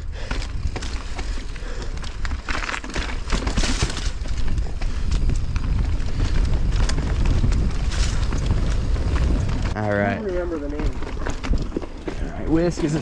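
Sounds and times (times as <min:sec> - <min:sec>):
low rumble: 0:00.0 - 0:12.4
bike clattering over rocks: 0:00.2 - 0:13.0.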